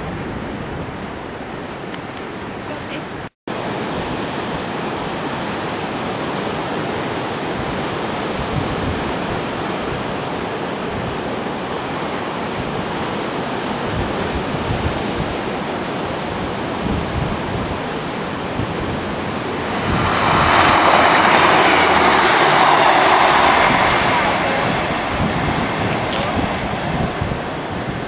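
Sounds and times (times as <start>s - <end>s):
sea surf: 0.0s - 28.0s
wind on microphone: 0.0s - 28.0s.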